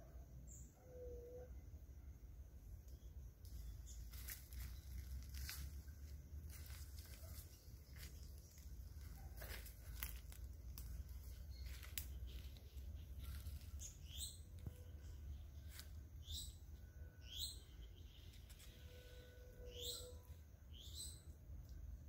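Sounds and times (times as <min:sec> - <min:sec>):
songbird chirping: 0:00.0 - 0:22.0
faint low rumble: 0:01.6 - 0:19.6.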